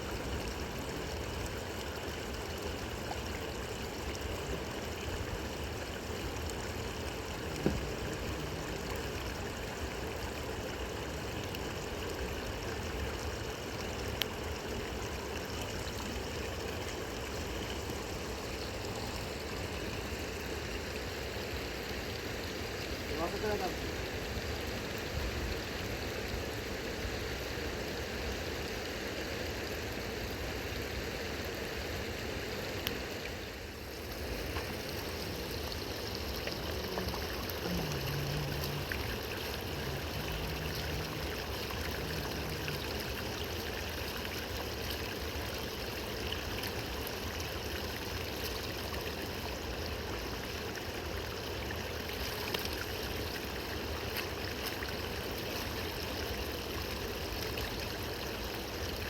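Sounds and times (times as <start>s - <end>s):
river water rushing and gurgling: 0.0s - 59.0s.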